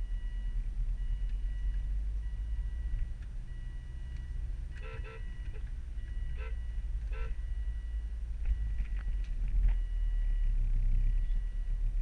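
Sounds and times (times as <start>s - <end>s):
car interior engine and road rumble: 0.0s - 12.0s.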